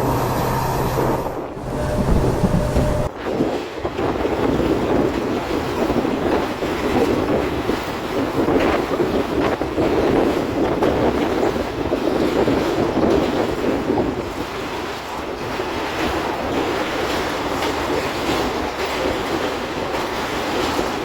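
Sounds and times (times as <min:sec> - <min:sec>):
train wheels rumbling on rails: 0:00.0 - 0:21.0
wind on microphone: 0:00.0 - 0:21.0.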